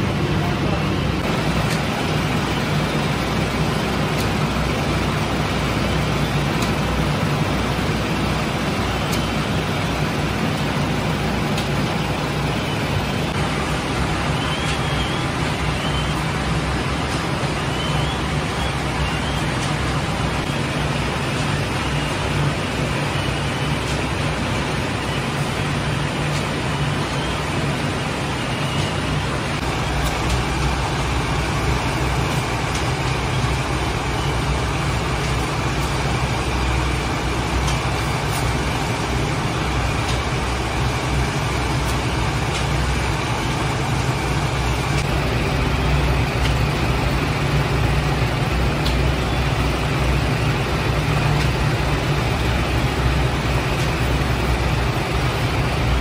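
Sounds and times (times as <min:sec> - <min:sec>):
bakery machinery rumbling: 0:00.0 - 0:56.0.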